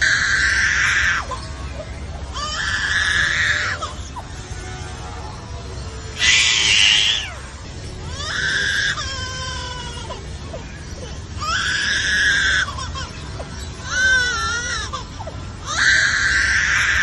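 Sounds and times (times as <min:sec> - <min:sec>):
bird screeching calls: 0:00.0 - 0:04.4, 0:06.2 - 0:17.0.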